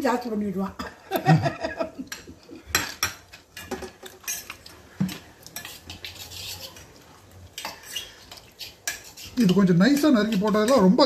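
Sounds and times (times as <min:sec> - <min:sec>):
metal utensil scraping steel cookware: 0:02.1 - 0:11.0.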